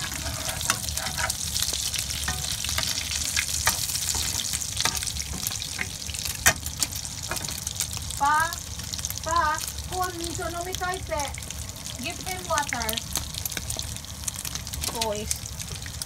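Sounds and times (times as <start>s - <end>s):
omelette sizzling in a pan: 0.0s - 16.0s.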